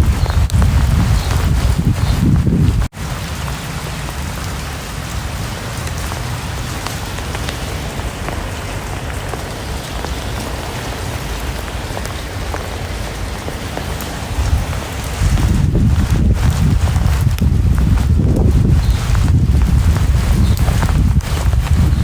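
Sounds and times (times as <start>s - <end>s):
rain patter: 0.0s - 22.0s
raindrops ticking: 0.0s - 22.0s.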